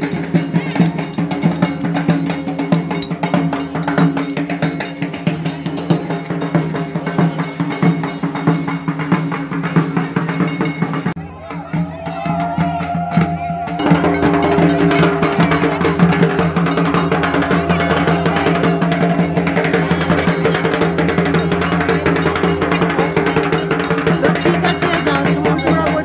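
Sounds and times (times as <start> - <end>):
drums beaten in fast rhythm: 0.0 - 26.0.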